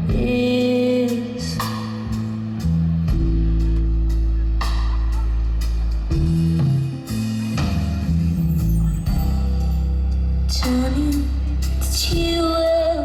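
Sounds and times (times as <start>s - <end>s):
drum kit with cymbal hits: 0.0s - 13.0s
sustained bass notes: 0.0s - 13.0s.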